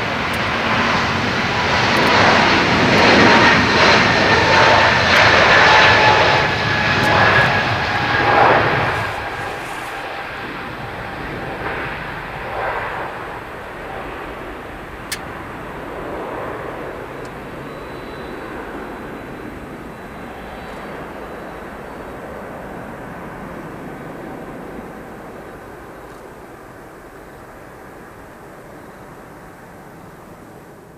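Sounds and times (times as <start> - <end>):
jet engines at takeoff: 0.0 - 30.9.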